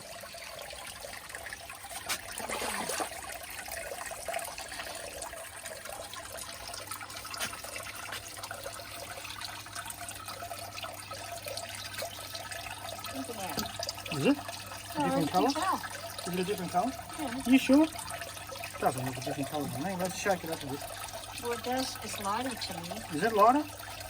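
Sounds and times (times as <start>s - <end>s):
water trickling through pipes: 0.0s - 24.0s.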